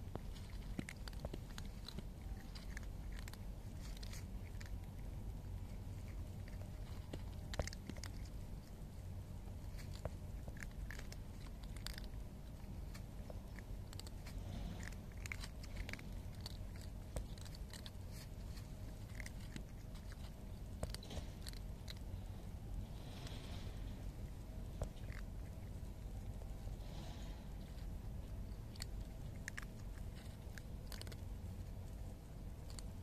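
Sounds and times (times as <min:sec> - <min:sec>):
cats crunching kibble: 0:00.0 - 0:33.0.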